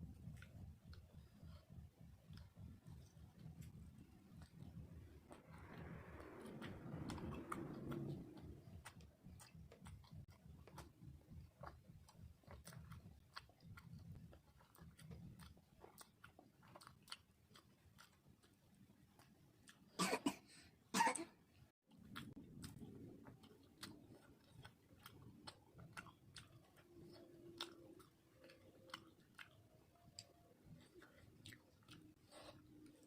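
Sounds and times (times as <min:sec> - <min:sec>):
close chewing with mouth smacks: 0:00.0 - 0:20.0, 0:21.8 - 0:33.0.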